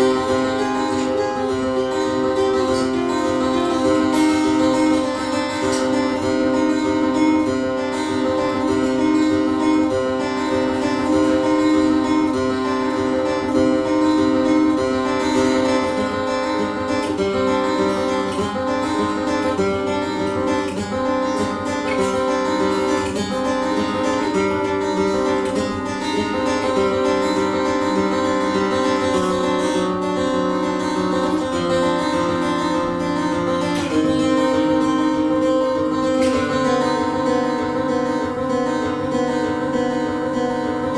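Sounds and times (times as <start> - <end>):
acoustic guitar playing: 0.0 - 40.9.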